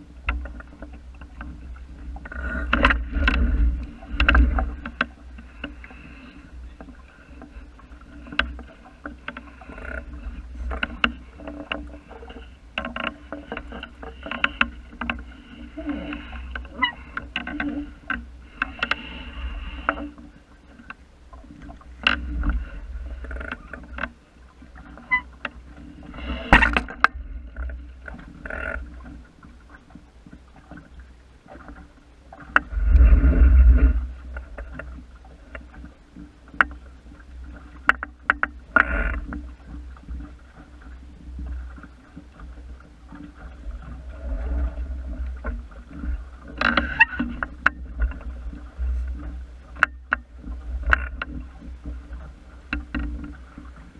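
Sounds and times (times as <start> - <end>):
boat knocks: 0.0 - 19.2, 19.8 - 53.9
water lapping against hull: 0.0 - 53.9.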